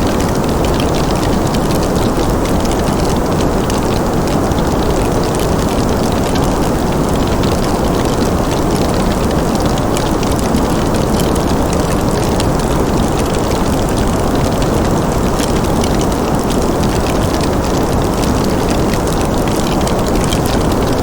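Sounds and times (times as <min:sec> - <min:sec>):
fire crackling: 0:00.0 - 0:21.0.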